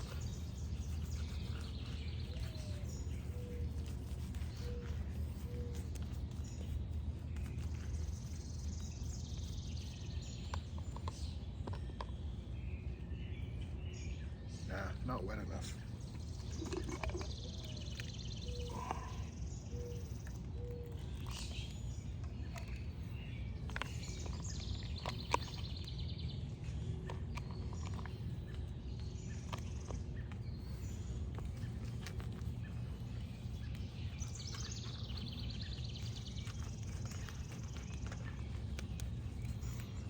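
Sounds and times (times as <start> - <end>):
birds chirping and trilling: 0.0 - 40.0
low background rumble: 0.0 - 40.0.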